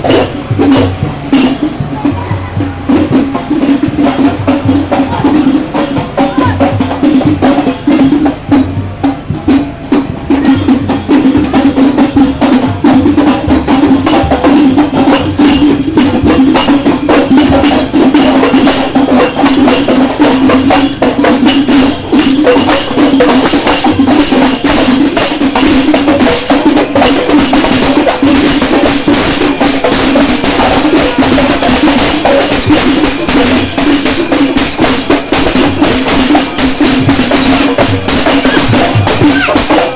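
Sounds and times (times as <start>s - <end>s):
loud music with fast percussion: 0.0s - 39.9s.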